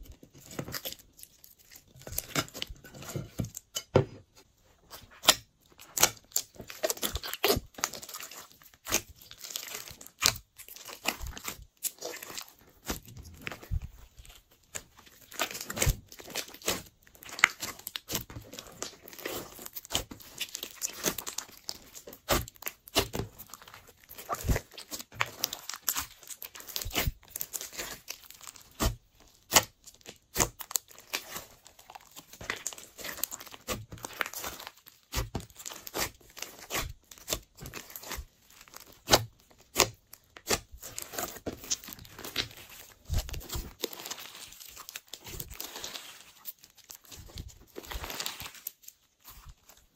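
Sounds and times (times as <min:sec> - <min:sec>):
slime crackling and popping: 0:05.1 - 0:49.9.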